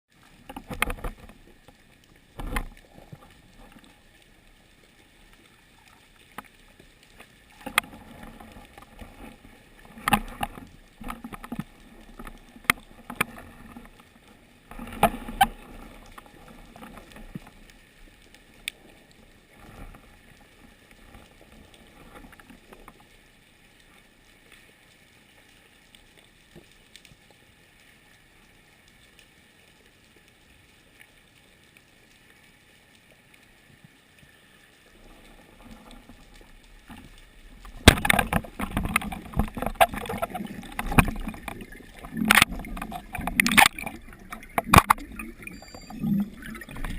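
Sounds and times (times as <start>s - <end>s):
water sloshing and splashing: 0.1s - 29.5s, 30.6s - 46.9s.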